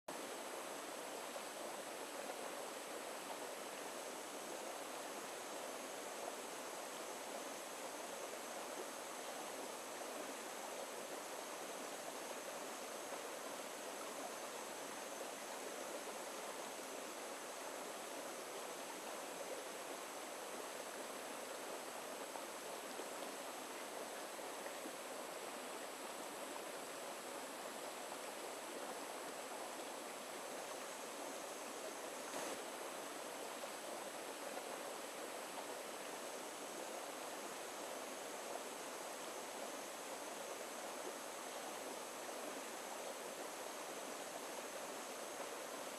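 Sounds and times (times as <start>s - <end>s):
stream flowing over stones: 0.1s - 45.9s.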